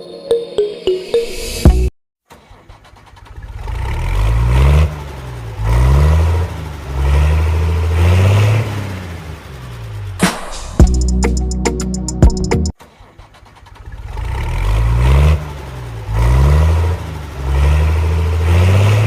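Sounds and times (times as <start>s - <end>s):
cartoon engine starting and revving: 1.7s - 11.3s, 12.8s - 19.0s.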